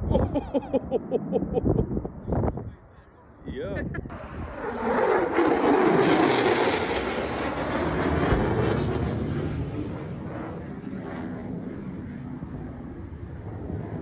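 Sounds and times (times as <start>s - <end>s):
military aircraft engine roar: 0.0s - 14.0s.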